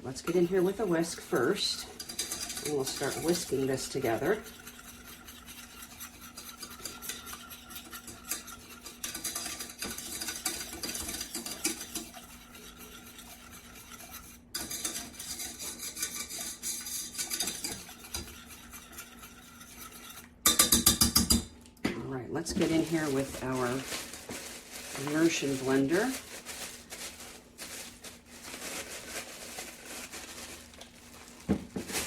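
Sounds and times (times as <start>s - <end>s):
whisk scraping inside a vessel: 0.0s - 21.4s, 22.4s - 32.0s.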